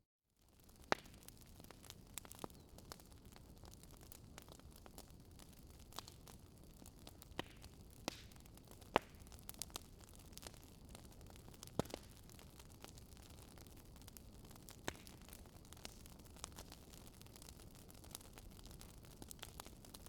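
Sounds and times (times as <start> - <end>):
wood fire crackling: 0.4 - 20.0
fire pops and snaps: 0.6 - 20.0.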